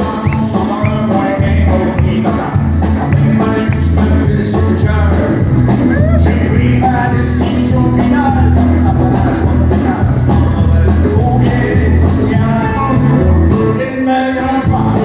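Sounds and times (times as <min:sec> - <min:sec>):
acoustic guitar strumming: 0:00.0 - 0:15.0
country band playing: 0:00.0 - 0:15.0
man singing: 0:00.0 - 0:15.0.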